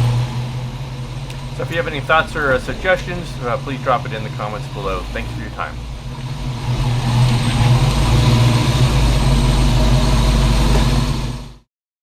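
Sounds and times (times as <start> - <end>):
car engine humming: 0.0 - 11.6.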